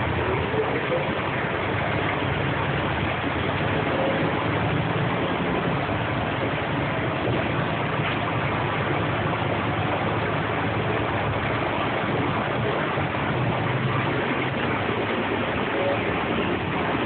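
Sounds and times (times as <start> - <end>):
bus engine hum: 0.0 - 17.0
rushing cabin and road noise: 0.0 - 17.0.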